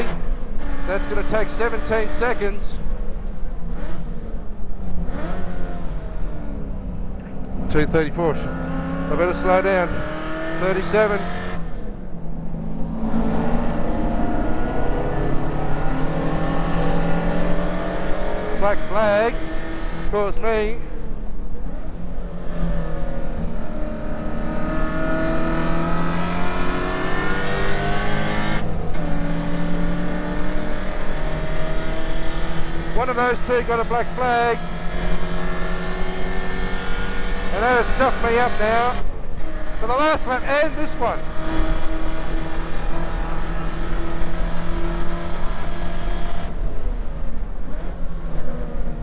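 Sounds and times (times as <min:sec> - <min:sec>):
race car engine revving: 0:00.0 - 0:49.0.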